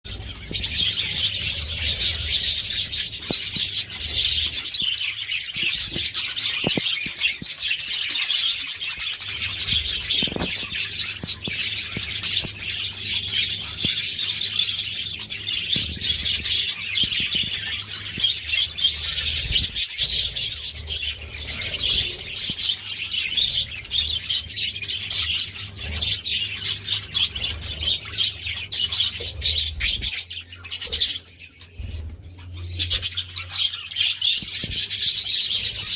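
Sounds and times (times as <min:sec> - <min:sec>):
budgerigars chattering and chirping: 0:00.1 - 0:35.9.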